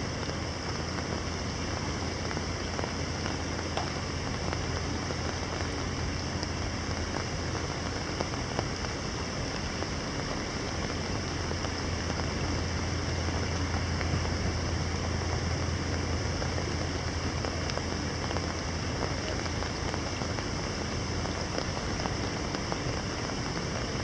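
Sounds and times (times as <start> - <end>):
distant traffic rumble: 0.0 - 24.0
rain falling on water: 0.0 - 24.0.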